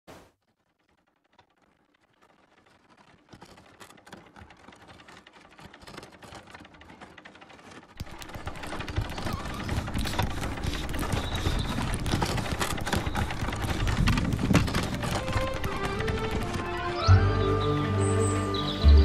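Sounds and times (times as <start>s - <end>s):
hamster wheel clattering: 0.4s - 17.0s.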